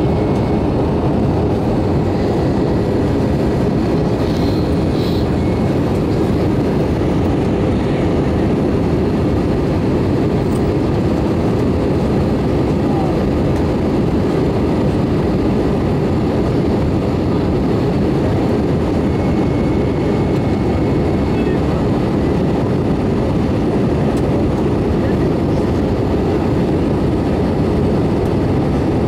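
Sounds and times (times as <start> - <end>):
jet engine rushing in cabin: 0.0 - 29.0.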